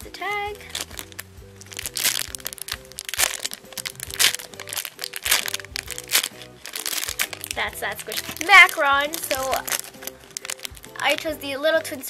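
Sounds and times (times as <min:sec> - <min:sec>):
background music: 0:00.0 - 0:12.0
plastic bag crinkling: 0:00.6 - 0:12.0.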